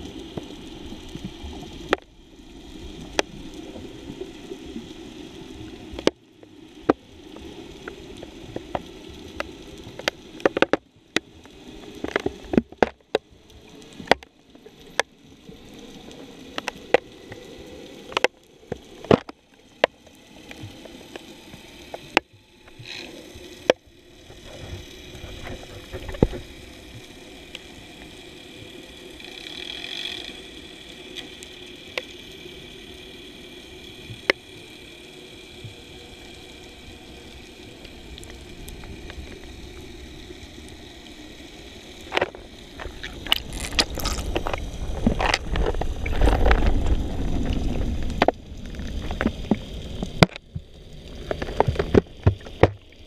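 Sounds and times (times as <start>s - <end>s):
muffled underwater water hiss: 0.0s - 53.0s.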